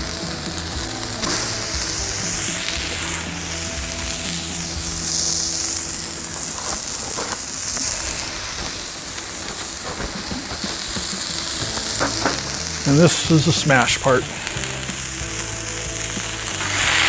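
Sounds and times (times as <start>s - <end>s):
onions sizzling on a griddle: 0.0s - 17.0s.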